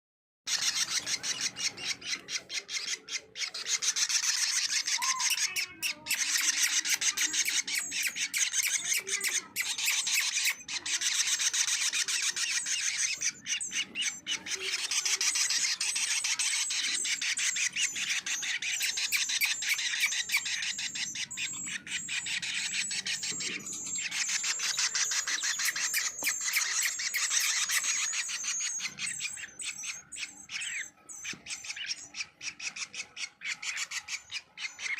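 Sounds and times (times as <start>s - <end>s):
songbird chattering: 0.5s - 34.9s.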